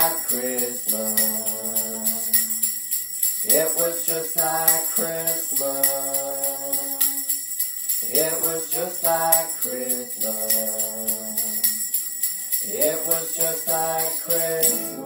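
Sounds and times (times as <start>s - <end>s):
people singing: 0.0s - 2.8s, 3.4s - 15.0s
sleigh bells shaken: 0.0s - 15.0s.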